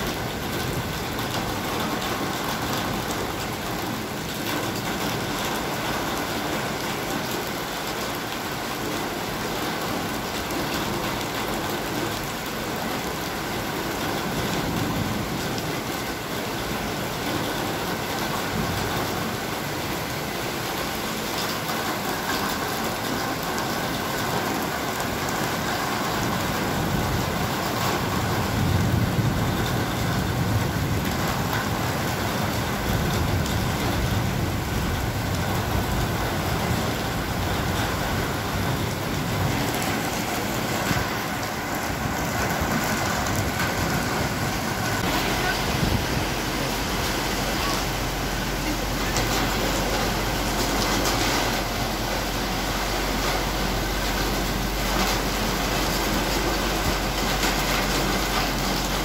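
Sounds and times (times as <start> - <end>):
heavy rain on cars: 0.0 - 59.0.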